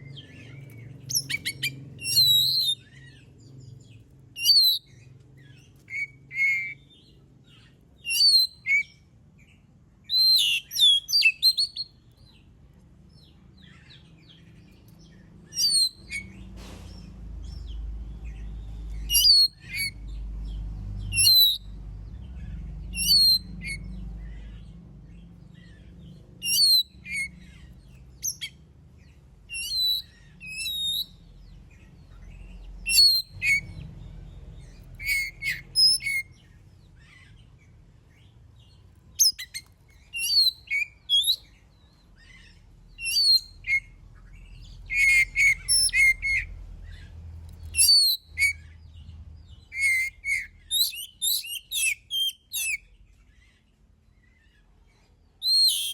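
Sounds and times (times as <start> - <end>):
bird singing whistled notes: 0.0 - 9.0, 10.0 - 12.4, 13.1 - 16.5, 17.4 - 33.9, 34.6 - 37.2, 38.6 - 53.0, 55.4 - 55.9
faint low hum: 0.0 - 55.9.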